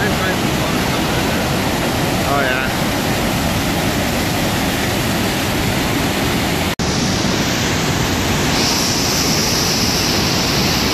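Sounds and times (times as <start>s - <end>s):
floodwater rushing through dam: 0.0s - 10.9s.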